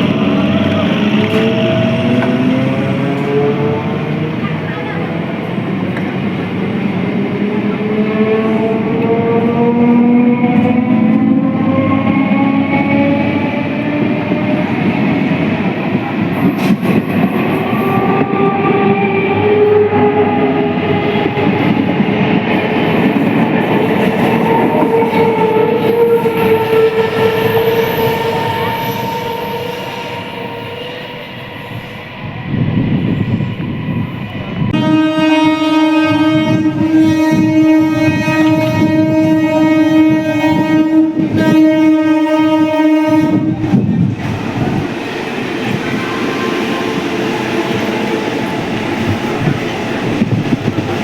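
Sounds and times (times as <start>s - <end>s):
train rumble and wheel clatter: 0.0s - 51.0s.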